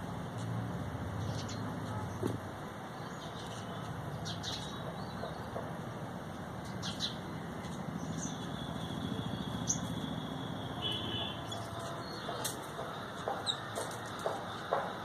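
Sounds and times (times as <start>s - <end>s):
birds chirping: 1.1s - 15.0s.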